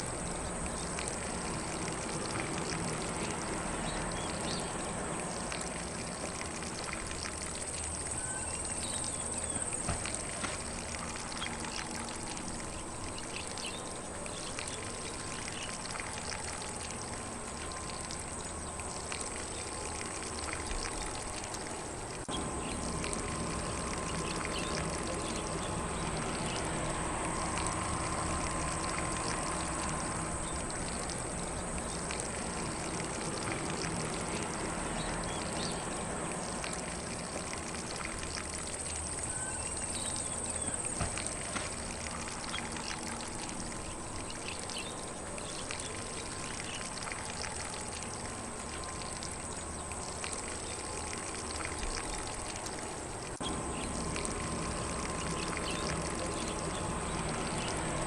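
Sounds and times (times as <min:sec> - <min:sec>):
distant birds: 0:00.0 - 0:58.0
sprinkler spraying water: 0:00.0 - 0:58.0.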